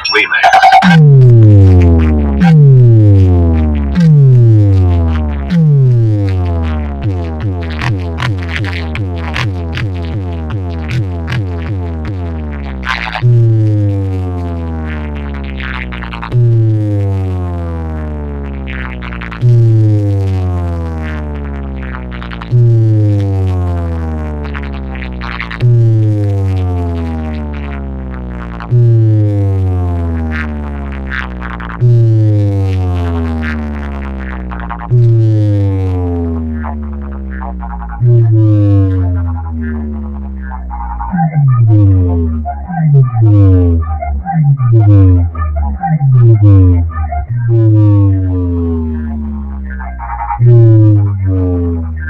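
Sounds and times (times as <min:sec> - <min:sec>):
deep falling bass tone: 0:00.4 - 0:52.0.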